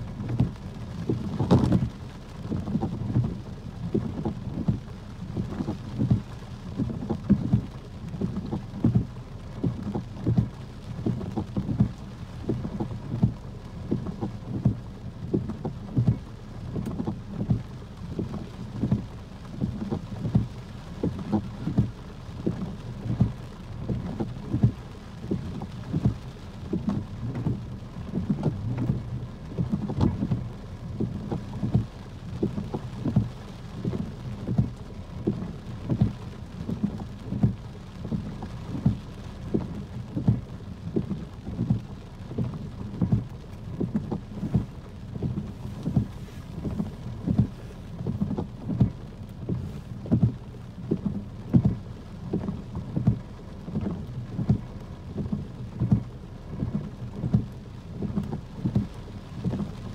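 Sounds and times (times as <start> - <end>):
rain drumming on car roof: 0.0 - 59.9.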